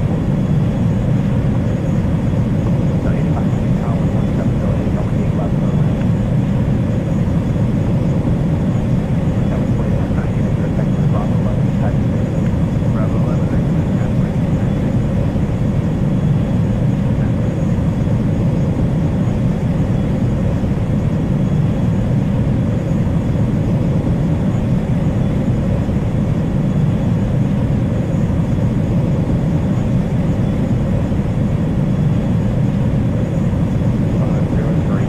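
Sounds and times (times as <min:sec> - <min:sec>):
jet airliner engines rumbling: 0:00.0 - 0:35.0.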